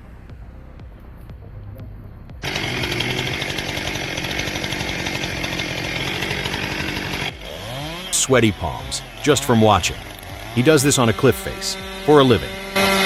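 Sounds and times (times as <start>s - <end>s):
chainsaw running at high revs: 2.4s - 13.0s.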